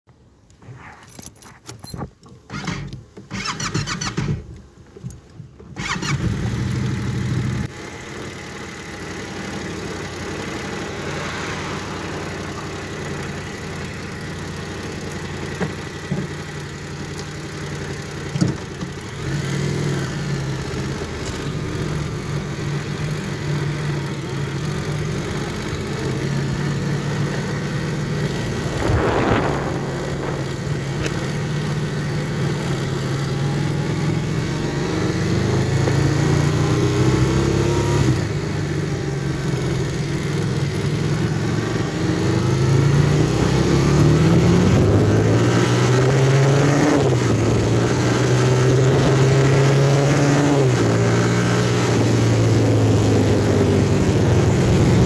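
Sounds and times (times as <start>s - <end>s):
vehicle engine starting and running: 1.6s - 55.0s.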